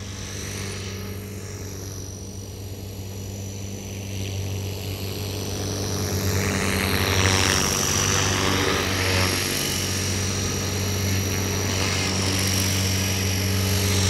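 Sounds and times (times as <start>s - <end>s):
helicopter rotor hum: 0.0s - 14.0s
high-pitched motor whine: 0.0s - 14.0s.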